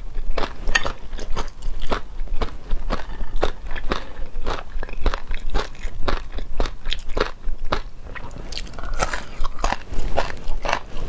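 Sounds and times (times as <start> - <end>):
wet crunchy chewing: 0.3 - 11.0.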